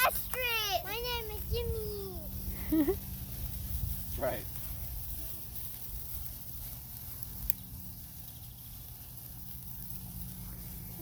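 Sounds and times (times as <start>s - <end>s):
sharp crackle: 0.0s - 11.0s
sparkler hissing: 0.0s - 11.0s
steady low hum: 0.0s - 11.0s.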